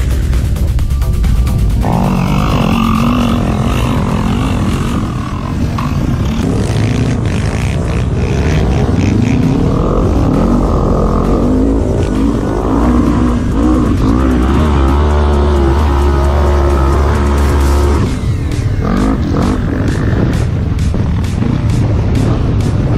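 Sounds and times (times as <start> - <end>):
quad engines revving: 1.8 - 22.9.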